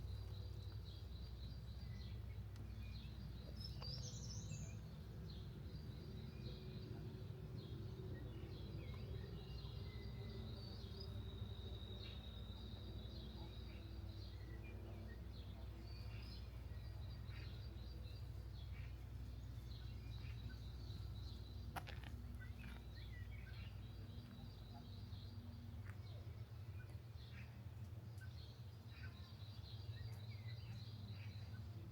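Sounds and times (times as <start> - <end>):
low outdoor rumble: 0.0 - 31.9
songbirds chirping and trilling: 0.0 - 31.9.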